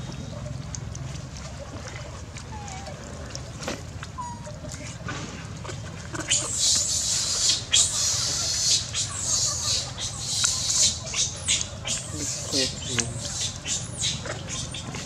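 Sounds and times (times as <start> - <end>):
monkeys chewing and slurping: 0.0 - 15.0.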